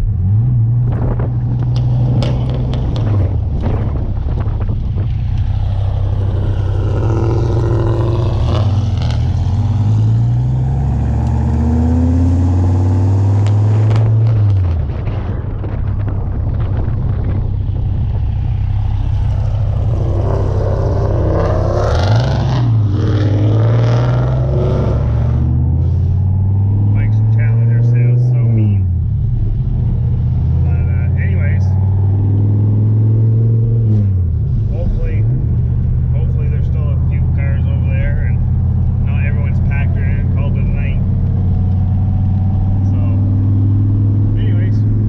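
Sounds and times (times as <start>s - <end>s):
car engine drone: 0.0s - 45.0s
road noise: 0.0s - 45.0s.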